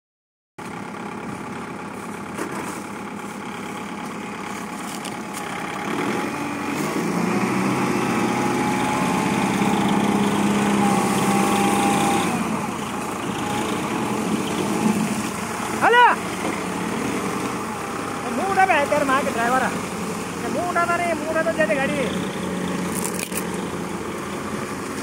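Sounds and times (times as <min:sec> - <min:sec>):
tractor engine running: 0:00.6 - 0:25.0.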